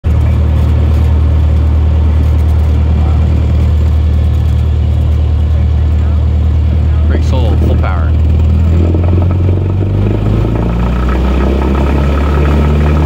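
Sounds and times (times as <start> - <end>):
aircraft engine and propeller: 0.0 - 13.0.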